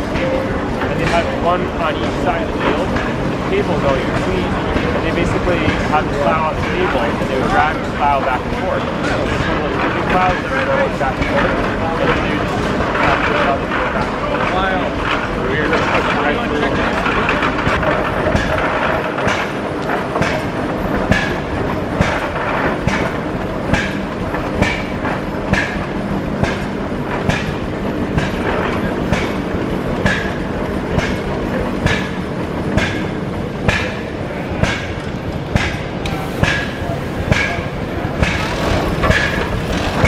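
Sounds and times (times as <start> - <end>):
steam engine exhaust chuffing: 0.0 - 40.0.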